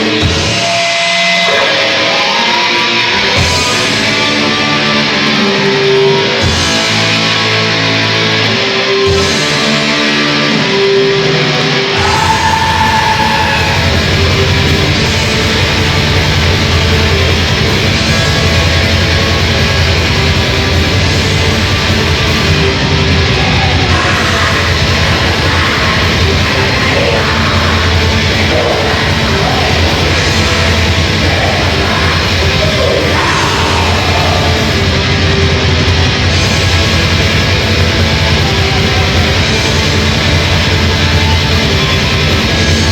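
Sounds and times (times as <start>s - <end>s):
electric guitar line: 0.0s - 42.9s
heavy metal band playing live: 0.0s - 42.9s.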